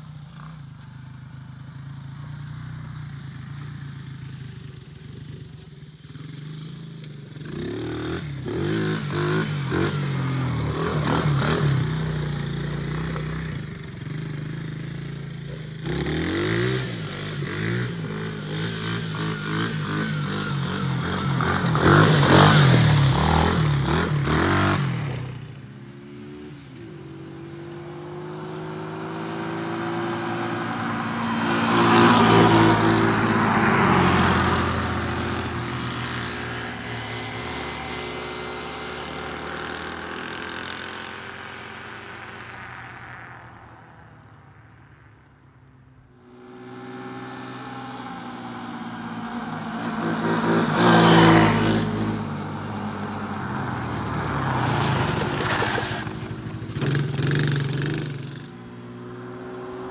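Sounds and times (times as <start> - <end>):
quad engines revving: 0.0 - 43.3, 46.2 - 59.9.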